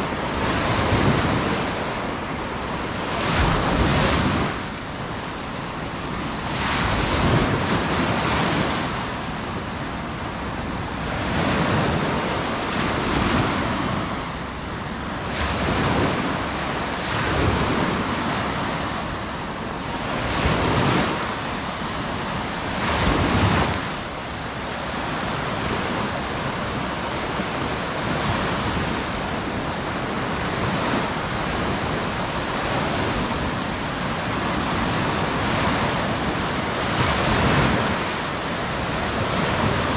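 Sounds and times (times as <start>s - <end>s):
surf breaking on beach: 0.0s - 39.9s
wind on microphone: 0.0s - 39.9s.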